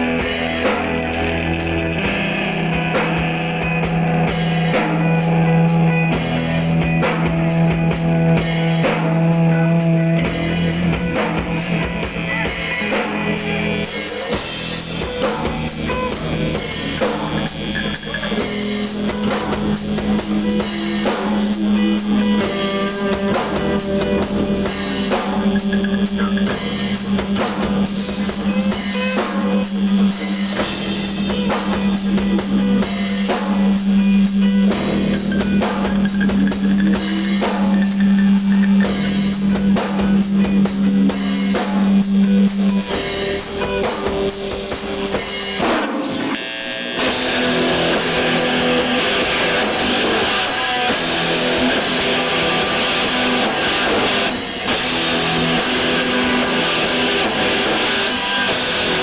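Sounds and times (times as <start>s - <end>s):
bass guitar: 0.0s - 59.0s
drum kit and cymbals: 0.0s - 59.0s
electric guitars: 0.0s - 59.0s.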